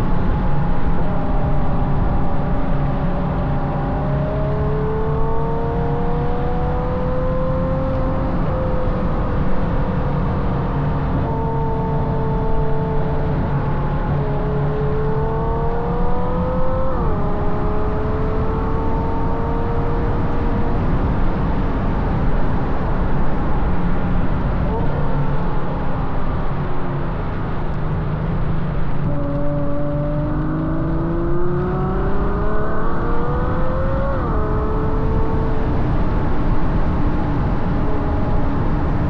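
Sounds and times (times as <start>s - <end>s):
car engine revving: 0.0s - 39.0s
road and wind rumble: 0.0s - 39.0s.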